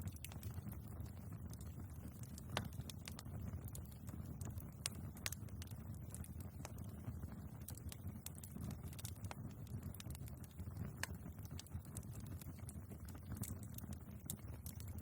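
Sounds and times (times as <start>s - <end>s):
logs crackling and popping: 0.0s - 15.0s
low rumble of flame: 0.0s - 15.0s.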